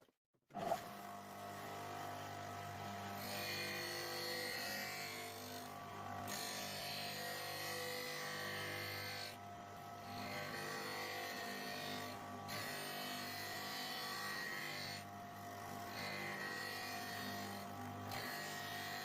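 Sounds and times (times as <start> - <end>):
sharpening machine motor hum: 0.6 - 19.0.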